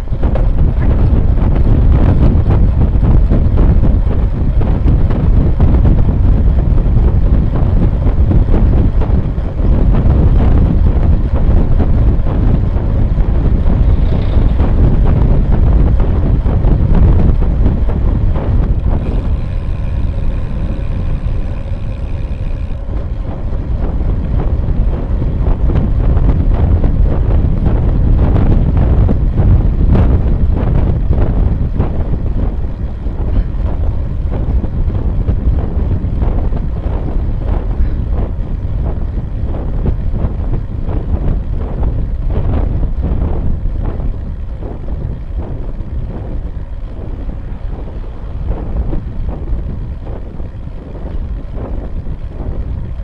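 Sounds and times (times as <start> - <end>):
road noise: 0.0 - 53.0
wind buffeting microphone: 0.0 - 53.0.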